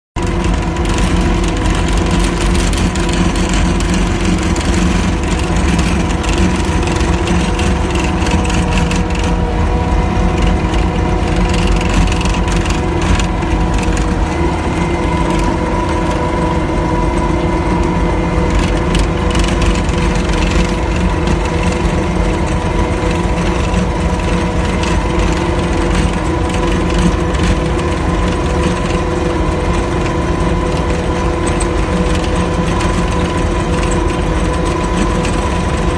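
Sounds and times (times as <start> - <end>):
engine droning steadily: 0.1 - 35.9.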